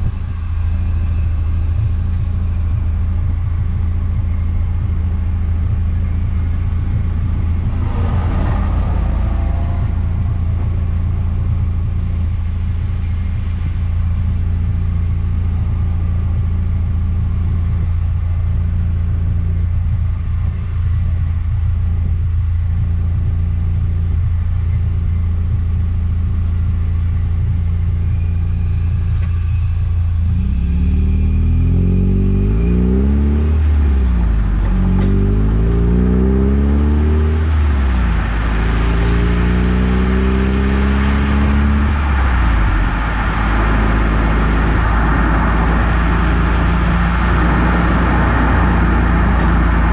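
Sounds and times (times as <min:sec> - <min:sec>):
car engine droning: 0:00.0 - 0:49.9
road noise: 0:00.0 - 0:49.9.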